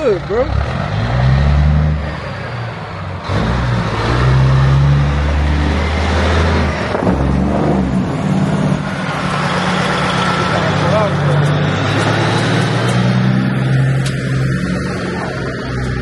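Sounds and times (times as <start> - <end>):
truck diesel engine pulling away: 0.0 - 16.0.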